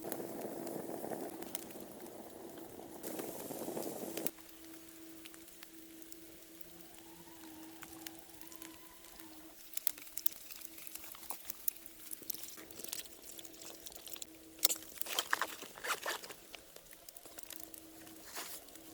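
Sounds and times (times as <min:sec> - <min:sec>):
small sharp clicks and crackles: 0:00.0 - 0:18.9.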